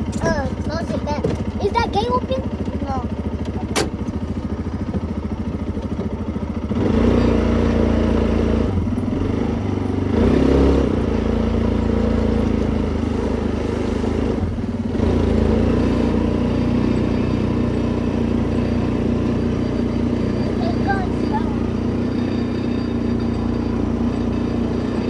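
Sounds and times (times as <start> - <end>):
vehicle engine puttering: 0.0 - 25.0.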